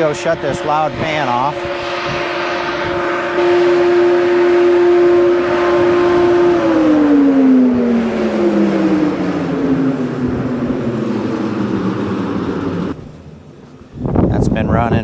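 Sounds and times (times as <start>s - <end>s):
fan spinning down: 0.0s - 14.7s.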